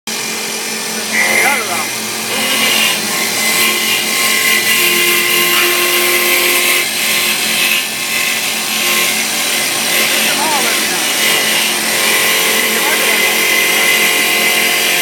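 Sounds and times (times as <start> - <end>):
wood lathe whirring and cutting: 0.1 - 15.0.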